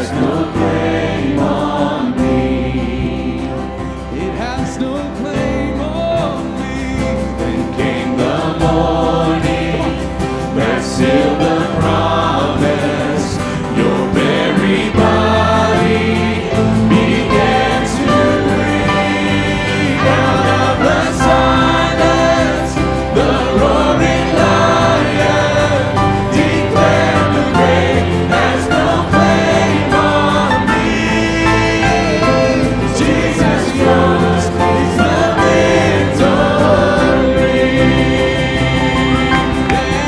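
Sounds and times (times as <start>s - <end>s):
choir singing worship song: 0.0s - 40.0s
instrumental accompaniment: 0.0s - 40.0s.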